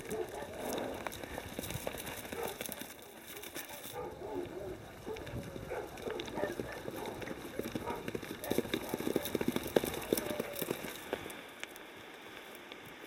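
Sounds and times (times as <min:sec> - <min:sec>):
horses galloping over grass: 0:00.0 - 0:13.0.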